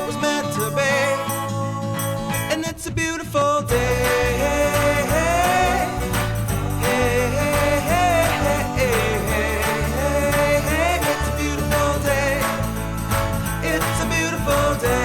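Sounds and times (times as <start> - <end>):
person singing: 0.0 - 15.0
upbeat pop song: 0.0 - 15.0.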